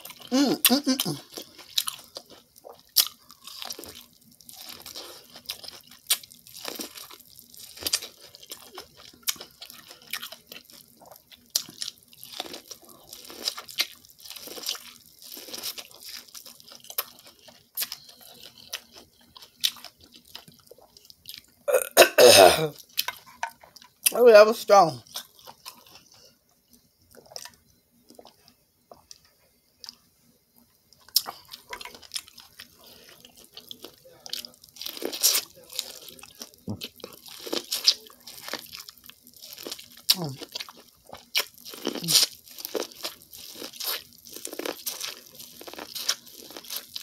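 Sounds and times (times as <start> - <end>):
crunchy bites and chewing: 0.0 - 24.2, 30.9 - 47.0.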